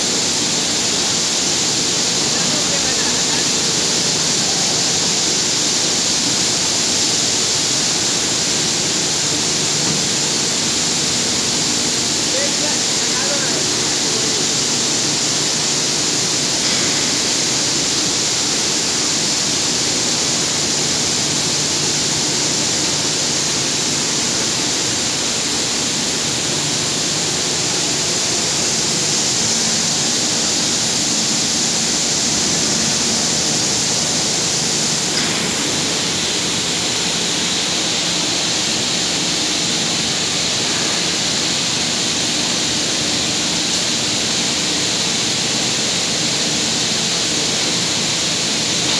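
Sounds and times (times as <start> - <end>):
loud hiss of spraying water: 0.0 - 48.9.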